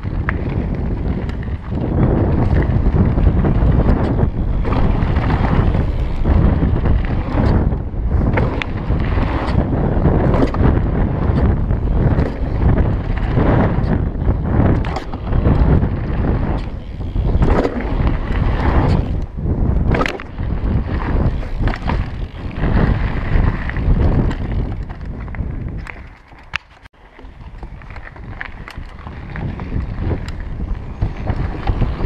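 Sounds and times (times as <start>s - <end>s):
bike knocks and rattles: 0.0s - 32.0s
wind buffeting microphone: 0.0s - 32.0s.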